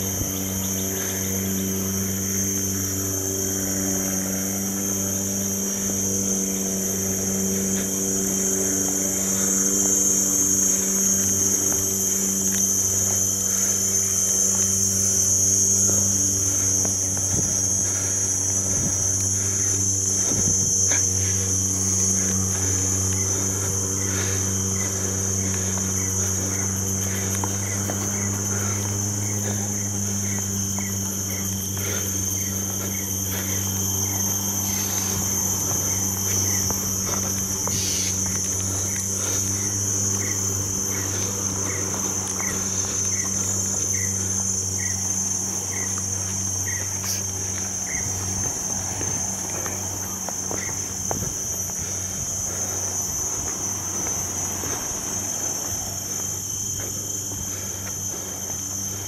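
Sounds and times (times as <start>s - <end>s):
insect drone: 0.0s - 59.0s
low steady hum: 0.0s - 59.0s
short insect chirp: 0.0s - 59.0s.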